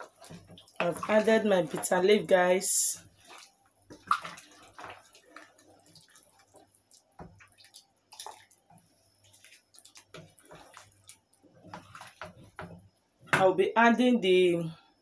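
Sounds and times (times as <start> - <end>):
soup sloshing and dripping: 0.0 - 13.0.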